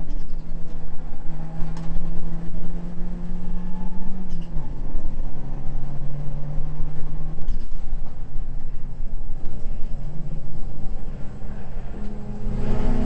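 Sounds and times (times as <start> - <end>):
turbocharged car engine under load: 0.0 - 13.0.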